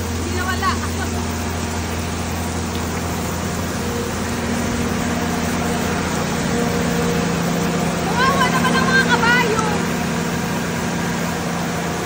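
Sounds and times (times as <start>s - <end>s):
engine idling: 0.0s - 12.0s
rain hiss: 0.0s - 12.0s.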